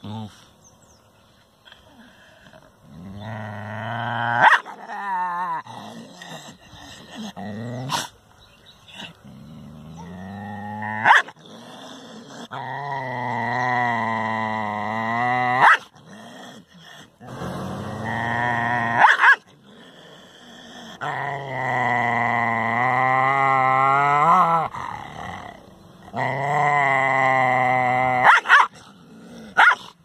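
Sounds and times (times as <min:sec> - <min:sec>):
dog growling: 0:01.7 - 0:08.2, 0:08.9 - 0:30.0.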